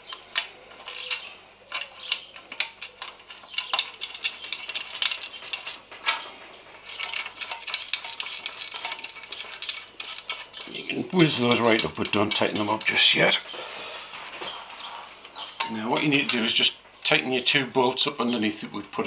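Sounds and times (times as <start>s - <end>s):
bolts and washers clinking: 0.0s - 13.4s, 15.2s - 17.2s.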